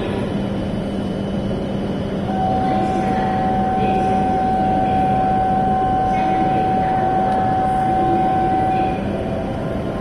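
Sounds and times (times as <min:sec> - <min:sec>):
train rushing noise: 0:00.0 - 0:10.0.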